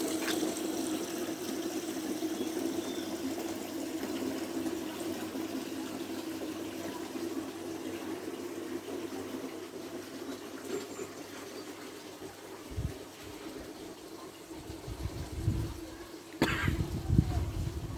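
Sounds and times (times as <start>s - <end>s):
fountain water trickling and splashing: 0.0s - 17.9s.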